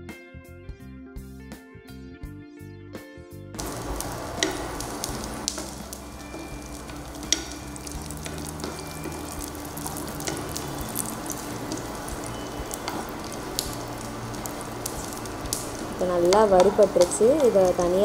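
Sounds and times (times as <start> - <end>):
nuts sizzling in hot ghee: 3.6 - 18.0.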